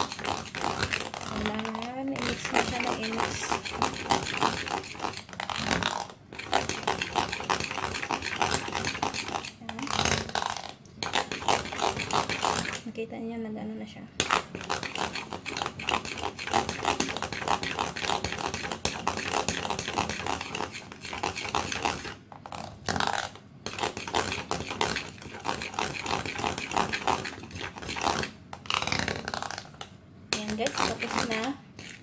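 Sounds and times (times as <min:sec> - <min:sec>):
spoon scraping glass bowl: 0:00.0 - 0:12.9, 0:14.2 - 0:29.8, 0:30.4 - 0:32.0.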